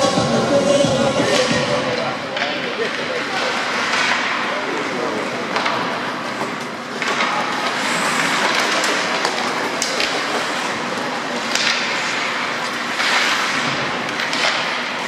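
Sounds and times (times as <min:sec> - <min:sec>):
sticks clacking on puck: 0:01.2 - 0:15.0
skates scraping on ice: 0:02.8 - 0:15.0.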